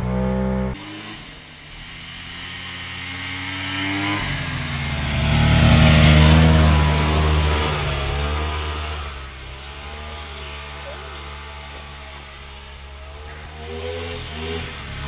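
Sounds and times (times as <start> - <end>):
snowmobile engine passing by: 0.0 - 15.0.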